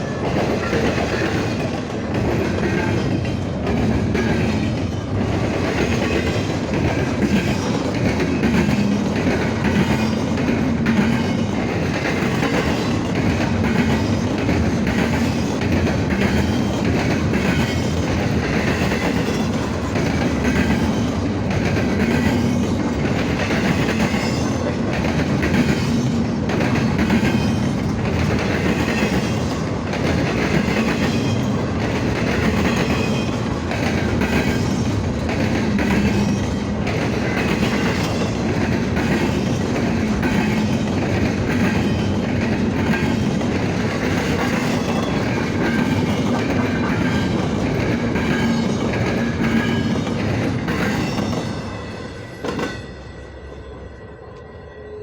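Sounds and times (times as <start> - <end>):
train wheels clattering over rail joints: 0.0 - 51.8.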